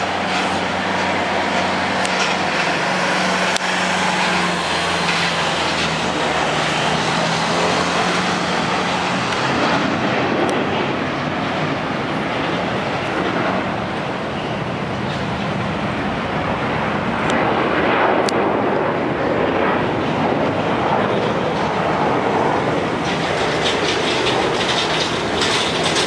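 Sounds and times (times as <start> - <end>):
engine noise rushing: 0.0 - 26.0.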